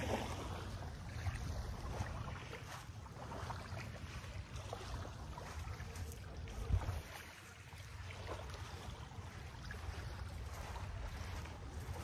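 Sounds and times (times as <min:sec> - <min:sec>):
water lapping at shore: 0:00.0 - 0:12.0
wind rumbling on microphone: 0:00.0 - 0:12.0.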